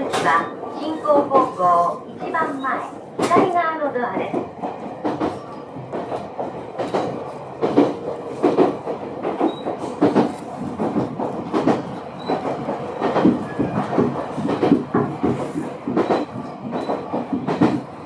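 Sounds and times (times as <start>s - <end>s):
train rumble: 0.0s - 18.0s
train wheels clacking on rail joints: 2.2s - 18.0s.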